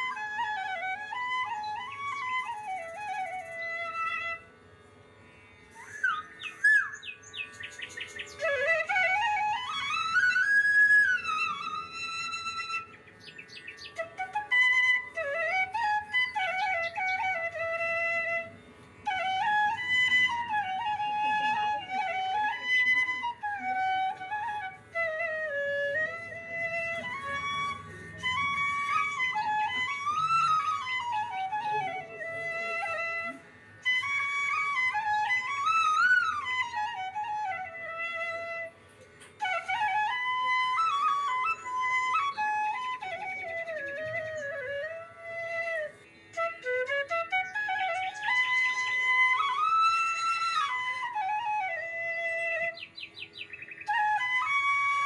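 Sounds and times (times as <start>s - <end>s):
instrumental background music: 5.7s - 55.0s.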